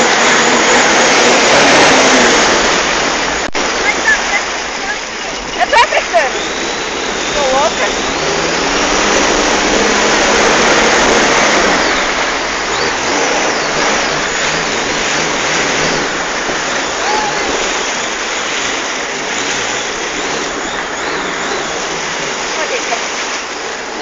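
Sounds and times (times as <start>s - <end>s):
jet ski engine: 0.0s - 24.0s
rush of water: 0.0s - 24.0s.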